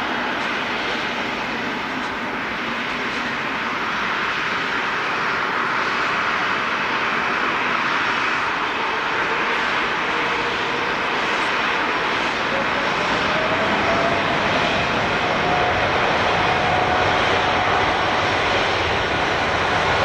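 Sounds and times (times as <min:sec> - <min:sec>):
airliner engines roaring: 0:00.0 - 0:20.0.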